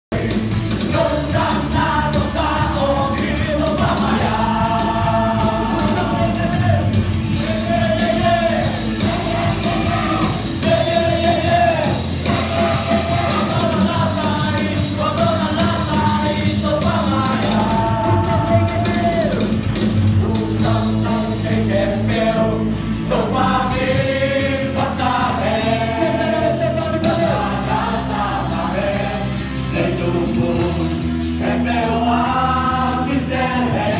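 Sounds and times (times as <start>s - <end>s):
band playing: 0.1s - 33.9s
group singing into microphones: 0.2s - 33.9s
instrumental backing: 0.2s - 33.9s.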